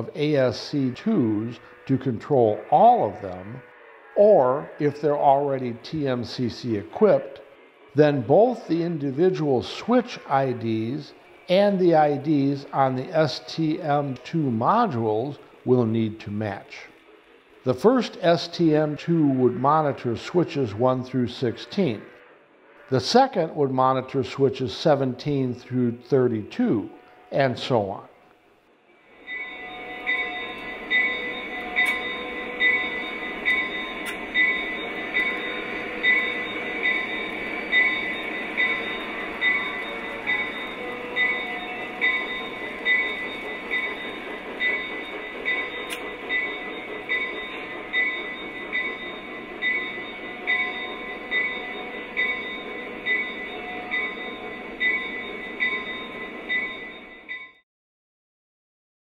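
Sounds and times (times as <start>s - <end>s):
regular track clicks: 0.0s - 27.1s, 29.2s - 57.6s
model train running on track: 0.0s - 28.0s, 29.0s - 57.6s.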